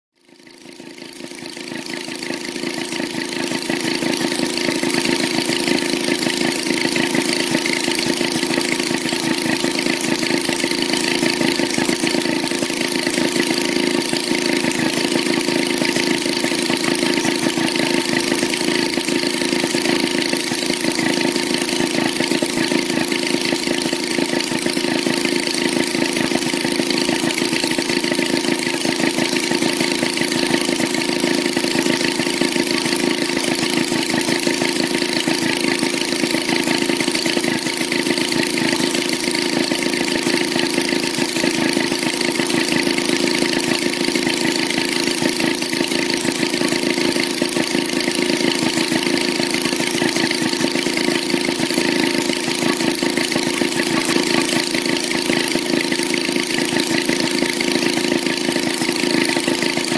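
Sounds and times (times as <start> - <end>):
two-stroke engine running: 0.1 - 59.9.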